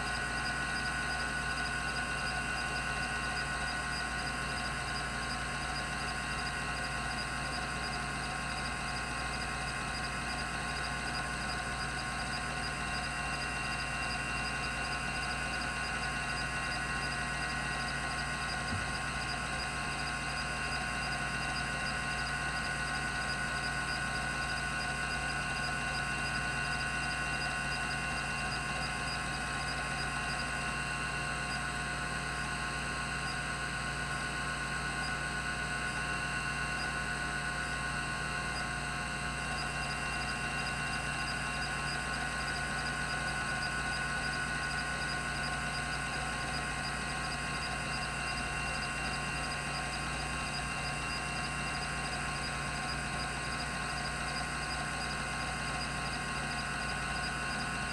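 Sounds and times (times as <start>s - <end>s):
hard drive humming and whining: 0.0s - 57.9s.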